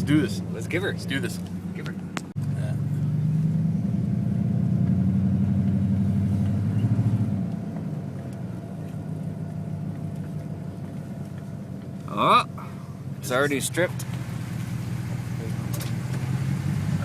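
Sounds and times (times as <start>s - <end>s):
vehicle engine driving off: 0.0s - 17.0s.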